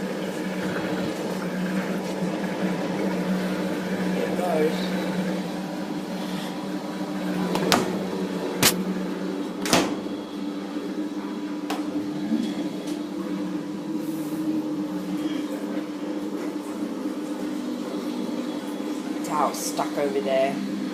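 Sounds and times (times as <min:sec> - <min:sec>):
washing machine motor hum: 0:00.0 - 0:20.9.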